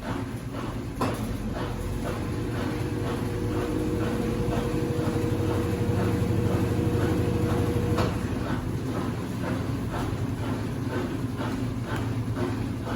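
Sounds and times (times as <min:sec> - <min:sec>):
washing machine motor hum: 0:00.0 - 0:12.9
washing machine whine: 0:00.0 - 0:12.9.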